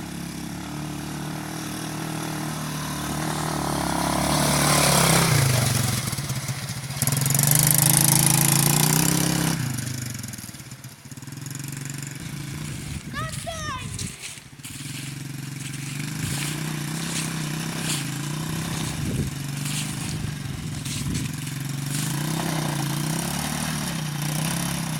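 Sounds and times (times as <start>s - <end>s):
atv engine revving: 0.0s - 13.1s, 14.2s - 24.9s.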